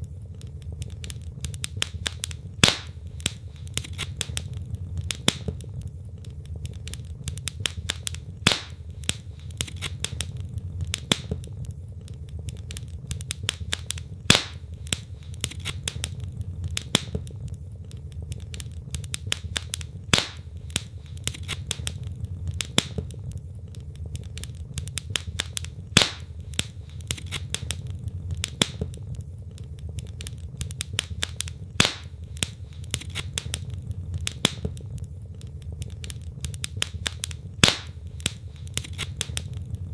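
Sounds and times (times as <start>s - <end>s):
fire popping: 0.0s - 39.9s
logs crackling and snapping: 0.0s - 39.9s
low rumble of flames: 0.0s - 39.9s.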